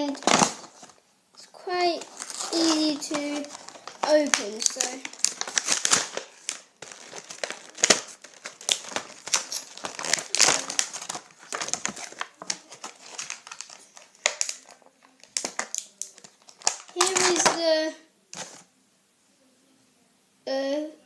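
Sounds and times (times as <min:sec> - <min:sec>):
packaging crinkling and rustling: 0:00.0 - 0:18.7.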